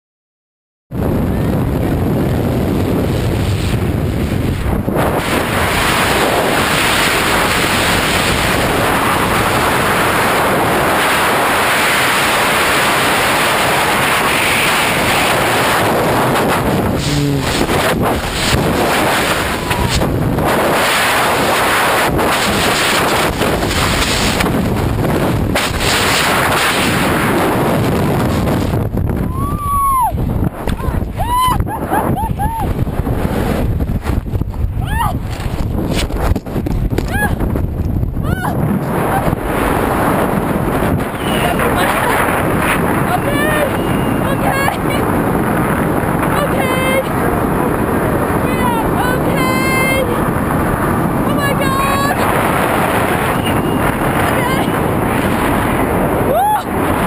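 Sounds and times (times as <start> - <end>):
wind roar buffeting microphone: 0.9 - 57.0.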